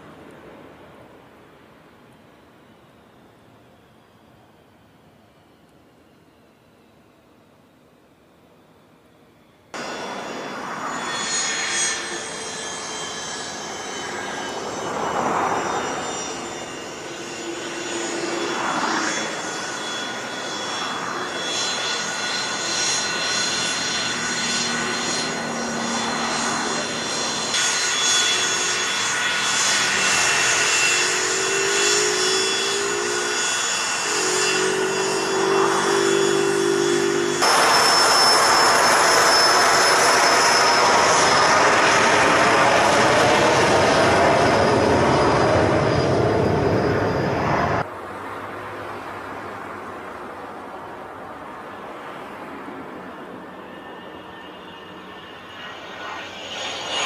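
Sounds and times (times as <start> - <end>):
jet engines turbine whine: 0.0 - 57.0.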